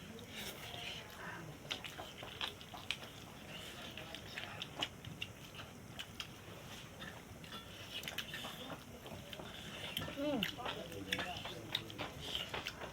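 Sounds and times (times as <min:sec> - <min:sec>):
person chewing food: 0:00.0 - 0:12.9.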